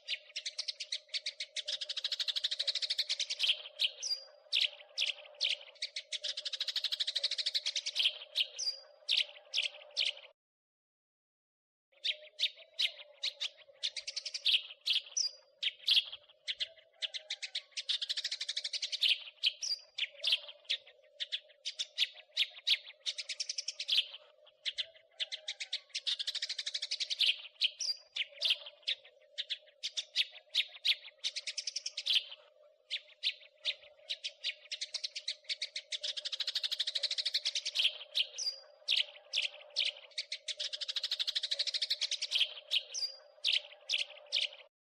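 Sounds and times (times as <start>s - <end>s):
sparrows chirping: 0.0s - 10.4s, 11.9s - 44.7s.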